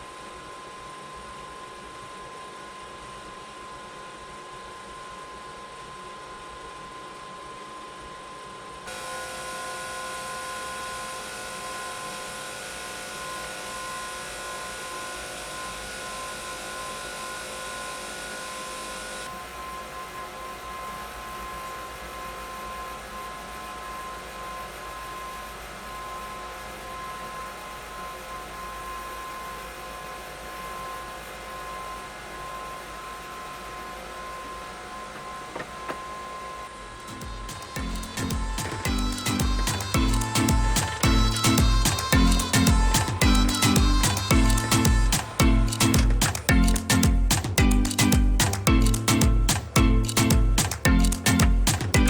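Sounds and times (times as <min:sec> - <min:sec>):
electric fan whirring: 0:00.0 - 0:52.0.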